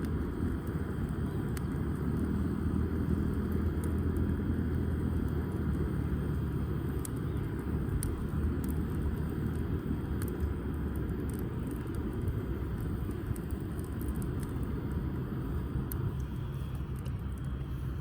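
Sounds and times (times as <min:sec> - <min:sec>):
fire crackling and popping: 0:00.0 - 0:18.0
low rumble of fire: 0:00.0 - 0:18.0.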